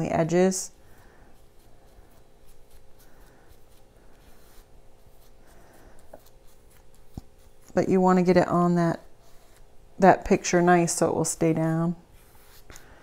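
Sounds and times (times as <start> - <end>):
faint steady hum: 0.0 - 13.0
soft brushing strokes: 0.4 - 13.0.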